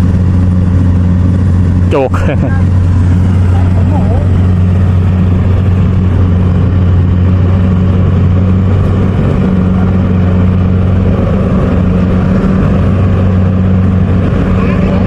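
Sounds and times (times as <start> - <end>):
harvester engine running: 0.0 - 15.0.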